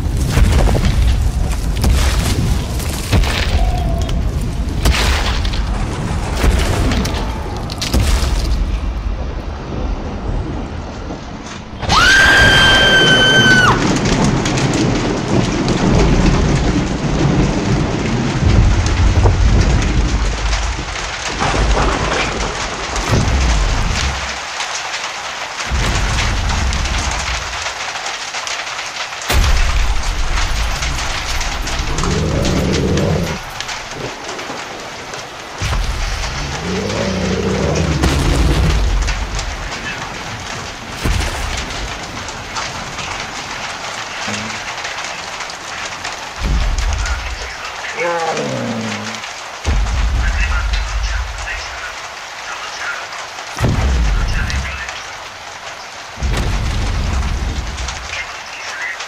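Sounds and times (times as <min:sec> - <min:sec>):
deep rolling thunder: 0:00.0 - 0:52.1, 0:53.2 - 0:58.2
heavy rain pouring: 0:00.0 - 0:59.0
raindrops hitting close by: 0:00.0 - 0:59.0.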